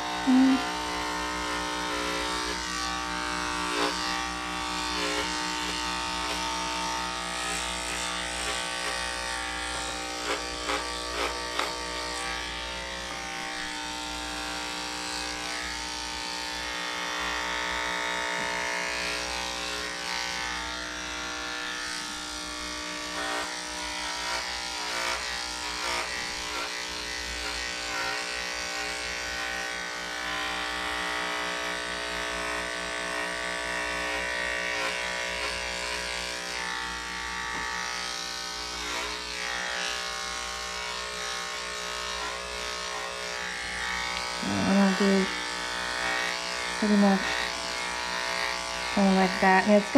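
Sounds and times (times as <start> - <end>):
electric dog clipper humming: 0.0 - 49.9.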